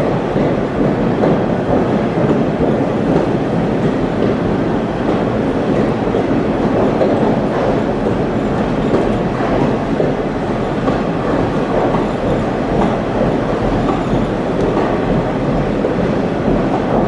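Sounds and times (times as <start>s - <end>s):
clickety-clack over track: 0.0s - 17.0s
train wheels rumbling on rails: 0.0s - 17.0s.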